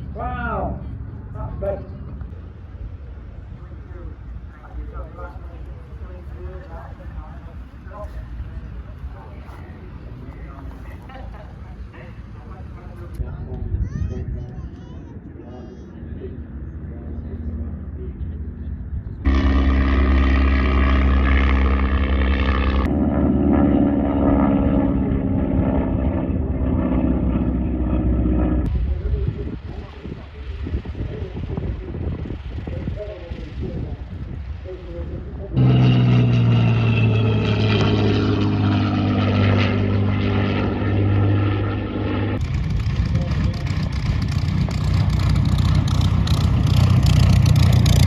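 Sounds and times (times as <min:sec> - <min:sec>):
engine running steadily: 0:00.0 - 0:48.0.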